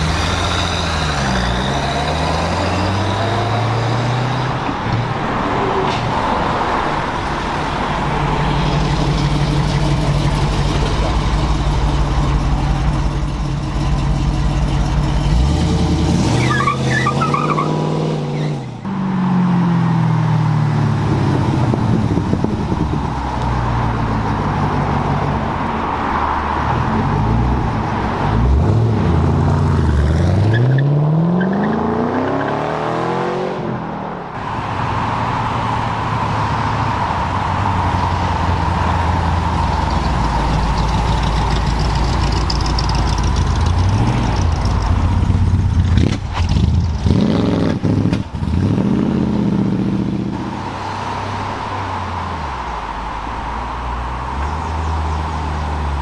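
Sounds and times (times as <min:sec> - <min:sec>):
car engines revving and accelerating: 0:00.0 - 0:56.0.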